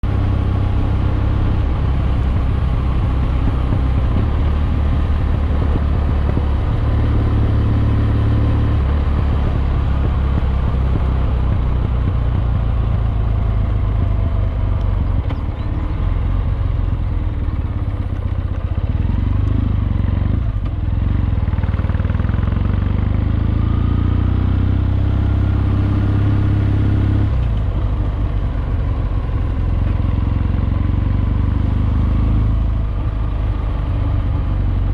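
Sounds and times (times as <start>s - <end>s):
motorcycle engine rumble: 0.0s - 34.9s.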